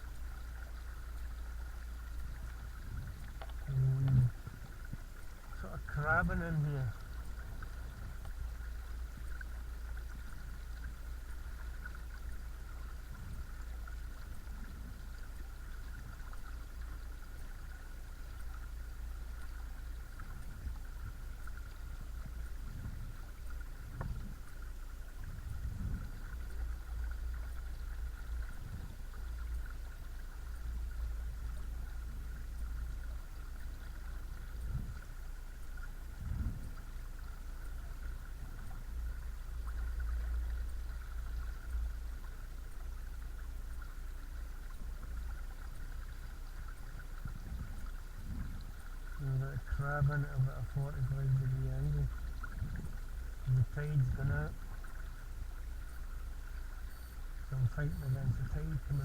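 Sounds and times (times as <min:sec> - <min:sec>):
soft low thumps: 0:00.0 - 0:17.2, 0:18.4 - 0:59.0.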